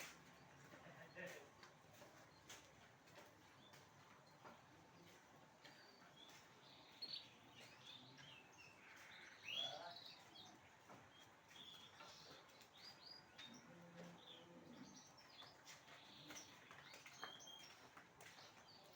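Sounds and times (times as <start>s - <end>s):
songbirds chirping: 0.0s - 18.9s.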